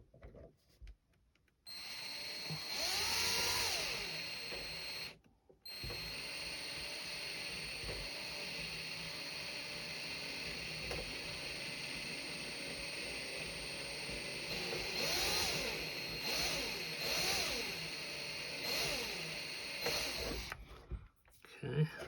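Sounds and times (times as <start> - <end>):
electric drill whining through plastic: 1.7 - 20.7.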